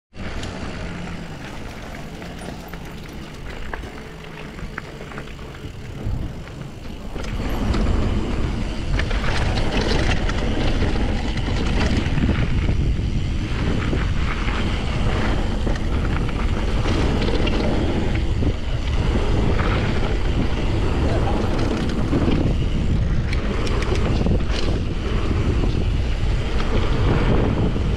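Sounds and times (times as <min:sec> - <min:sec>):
bike rattling: 0:00.1 - 0:27.9
bike tyres on gravel trail: 0:00.1 - 0:27.9
wind on microphone: 0:01.2 - 0:27.9.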